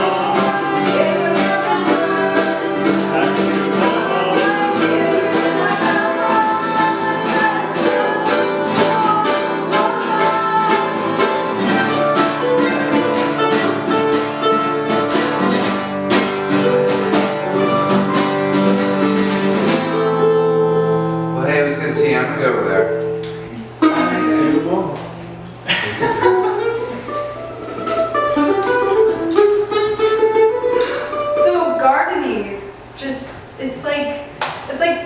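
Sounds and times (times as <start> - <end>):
plucked strings music: 0.0 - 32.3.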